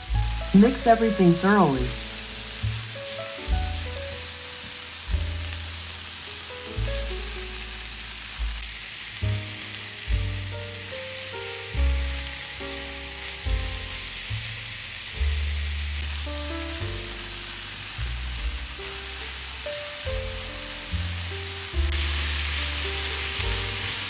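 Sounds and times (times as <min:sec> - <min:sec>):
background music with bass and melody: 0:00.0 - 0:08.6, 0:09.2 - 0:24.0
vegetables sizzling in a frying pan: 0:00.0 - 0:24.0.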